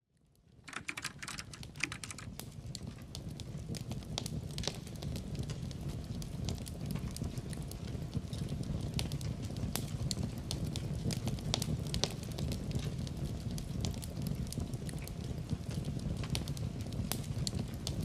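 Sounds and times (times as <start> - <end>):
wood fire crackling: 0.2 - 18.0.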